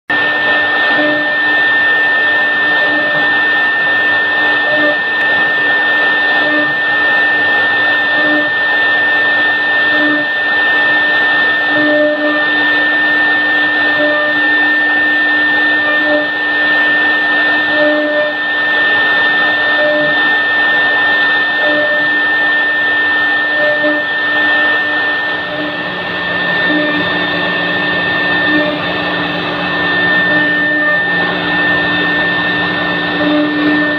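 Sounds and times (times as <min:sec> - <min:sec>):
low hum of cutting: 0:00.1 - 0:33.9
router spindles high-pitched whine: 0:00.1 - 0:33.9.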